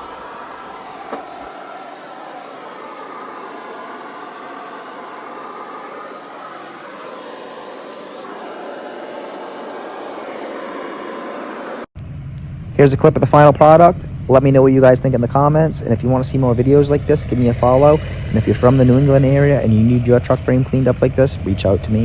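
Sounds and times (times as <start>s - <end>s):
whooshing machine noise: 0.0s - 11.9s, 15.4s - 22.0s.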